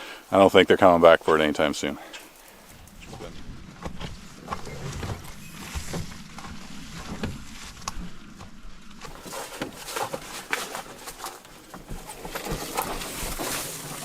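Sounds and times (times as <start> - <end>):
footsteps crunching on forest floor: 0.2 - 14.0.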